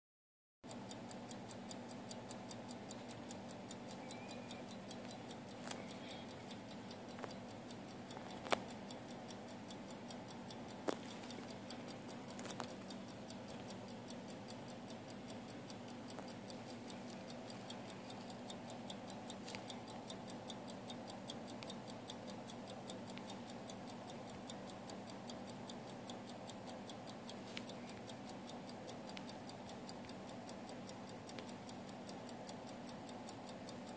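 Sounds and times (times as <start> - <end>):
pocket watch ticking: 0.7 - 33.9.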